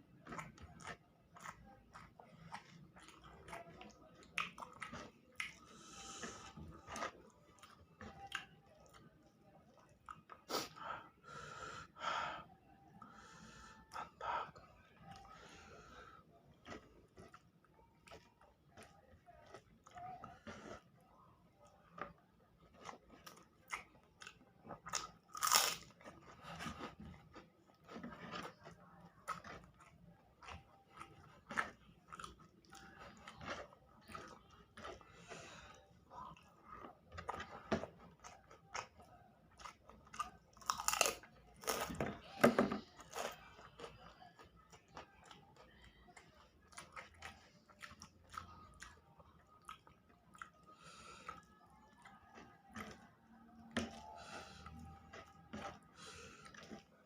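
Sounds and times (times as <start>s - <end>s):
person chewing crunchy food: 0.0s - 11.5s, 13.0s - 57.0s.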